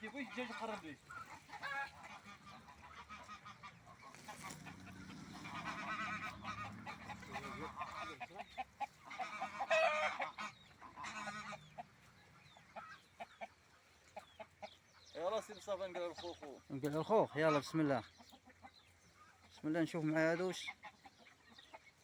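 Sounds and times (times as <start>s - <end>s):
poultry rapid wavering calls: 0.0s - 22.0s.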